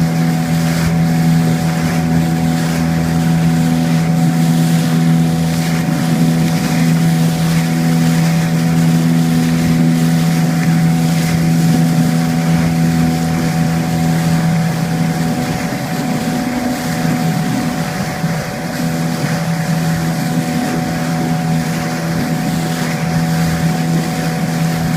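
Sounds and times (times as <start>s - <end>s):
motorboat engine droning: 0.0s - 24.9s
water rushing: 0.0s - 24.9s
wind: 0.0s - 24.9s.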